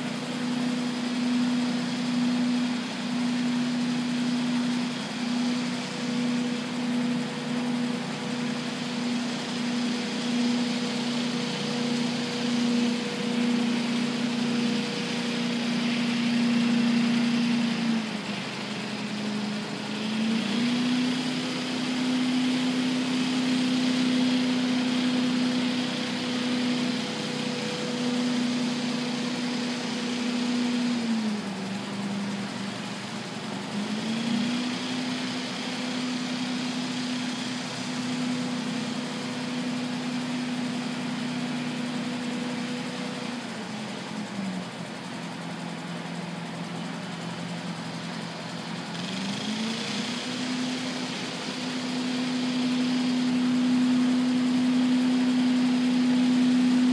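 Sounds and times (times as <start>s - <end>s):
leaf blower engine running: 0.0s - 56.9s.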